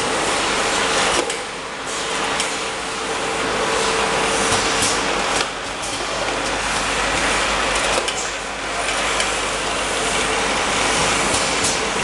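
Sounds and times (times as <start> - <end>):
conveyor whirr and rattle: 0.0 - 12.0.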